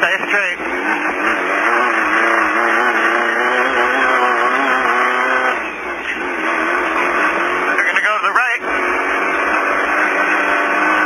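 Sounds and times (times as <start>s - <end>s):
race car engine running hard: 0.0s - 11.0s.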